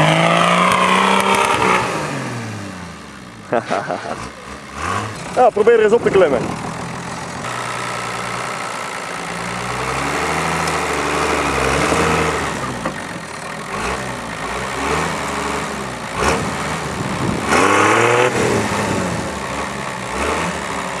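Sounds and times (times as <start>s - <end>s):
off-road engine revving: 0.0s - 21.0s.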